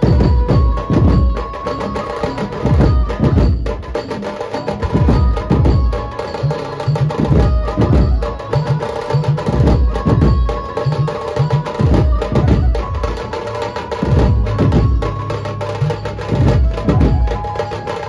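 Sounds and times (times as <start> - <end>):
bass drums and side drums beaten: 0.0 - 18.0
steady held ringing tones: 0.0 - 18.0.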